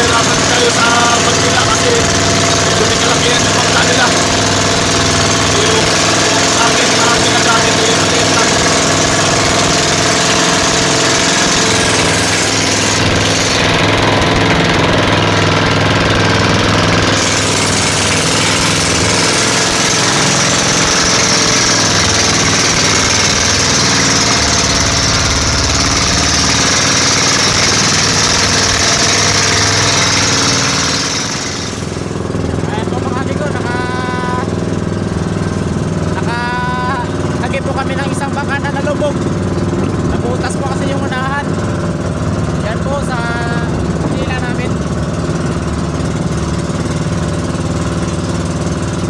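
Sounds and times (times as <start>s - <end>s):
boat engine running under load: 0.0s - 49.0s.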